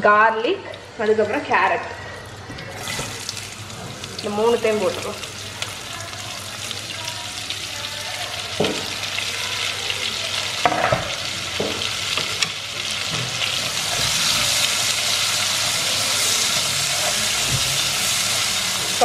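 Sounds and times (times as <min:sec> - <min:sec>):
vegetables sizzling in oil: 0:02.0 - 0:19.0.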